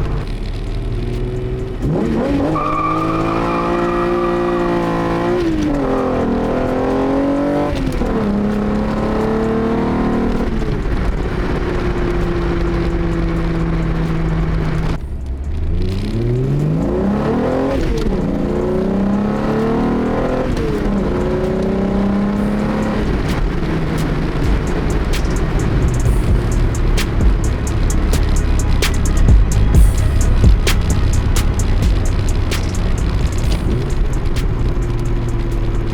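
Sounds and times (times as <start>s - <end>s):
car engine accelerating through gears: 0.0s - 35.9s.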